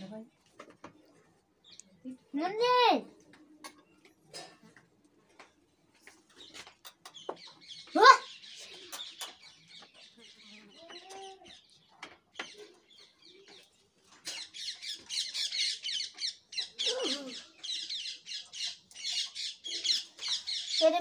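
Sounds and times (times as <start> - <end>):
birds chirping: 3.2 - 21.0.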